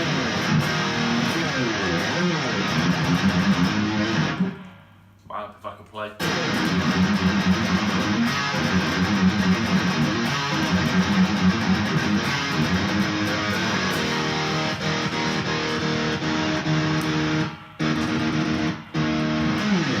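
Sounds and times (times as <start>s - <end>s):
electric guitar strumming: 0.0s - 5.0s, 6.2s - 20.0s.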